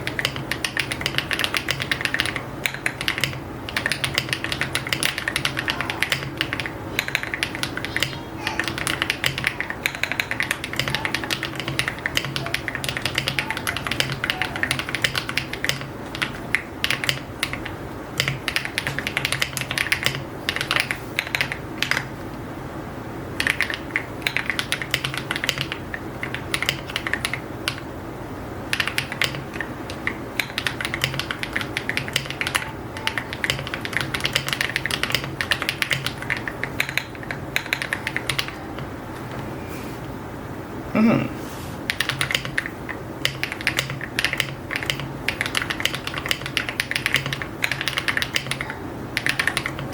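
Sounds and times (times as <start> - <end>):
mechanical keyboard typing: 0.0 - 22.2, 23.4 - 27.9, 28.7 - 39.0, 41.9 - 49.9.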